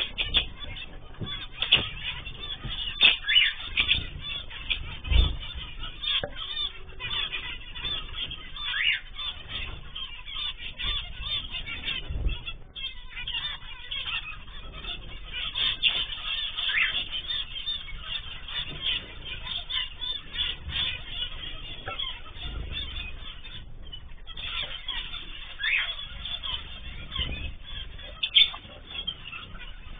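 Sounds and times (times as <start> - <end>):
finches chattering beeping calls: 0.0 - 29.9.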